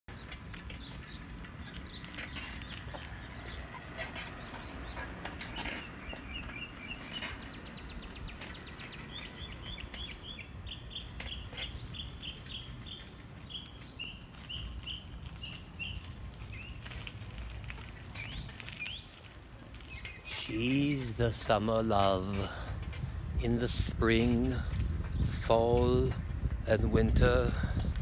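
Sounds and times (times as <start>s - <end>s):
songbird chirping: 0.1s - 28.0s.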